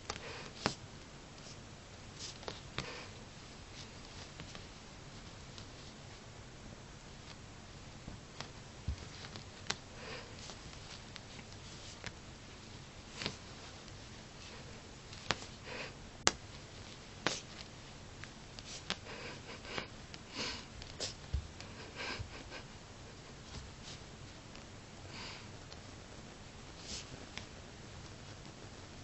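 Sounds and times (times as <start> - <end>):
cat sniffing and snuffling: 0.0 - 29.0.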